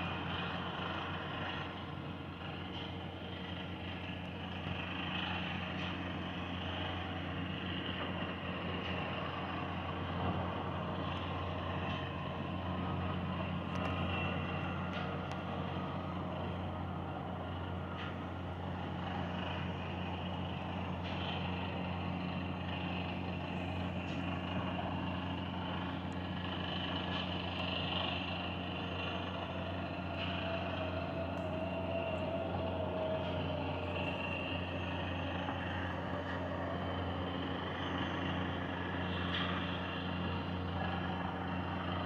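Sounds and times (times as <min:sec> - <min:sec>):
diesel machinery engine drone: 0:00.0 - 0:42.0.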